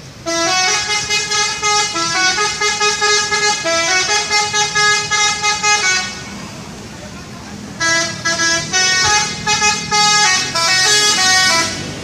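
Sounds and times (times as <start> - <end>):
multi-tone musical bus horn: 0.2 - 6.4, 7.8 - 12.0.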